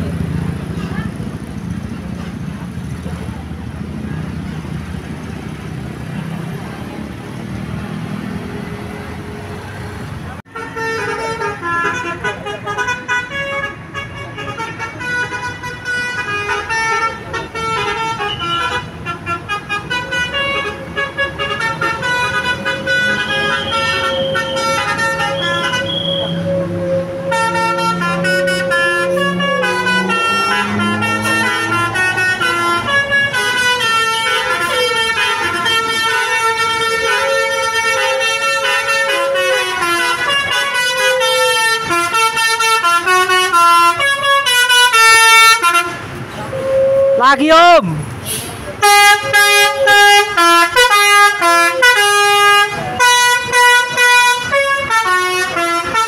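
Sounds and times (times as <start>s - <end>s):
multi-trumpet bus horn tune: 10.5s - 56.0s.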